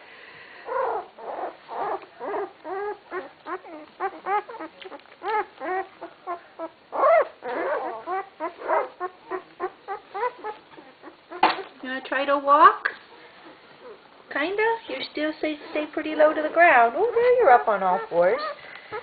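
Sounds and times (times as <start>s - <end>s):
puppies whimpering: 0.6s - 11.7s, 13.1s - 14.2s, 15.6s - 19.0s.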